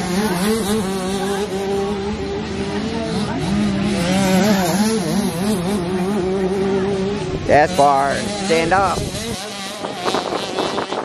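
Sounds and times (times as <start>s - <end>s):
motocross bike engines racing: 0.0s - 11.0s.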